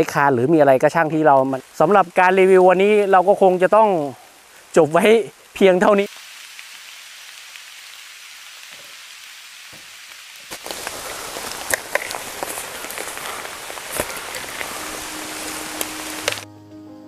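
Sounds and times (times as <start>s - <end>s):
steady rain: 0.0s - 16.5s.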